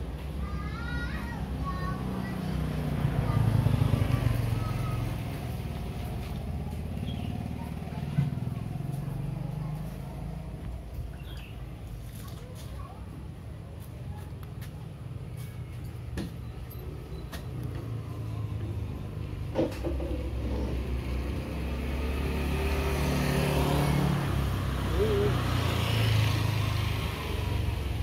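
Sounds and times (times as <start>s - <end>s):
vehicle engine rumble passing: 0.0s - 28.0s.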